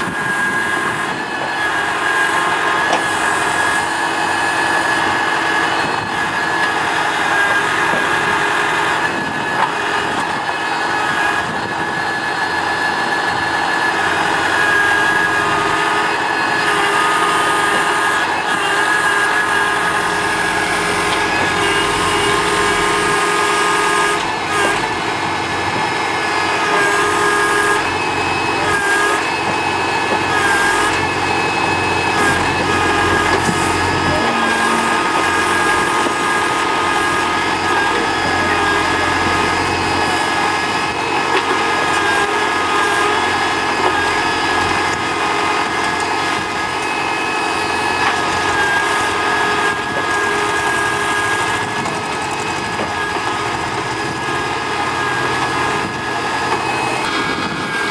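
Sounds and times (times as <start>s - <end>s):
diesel engine running: 0.0s - 57.9s
hydraulic high whine: 0.0s - 57.9s.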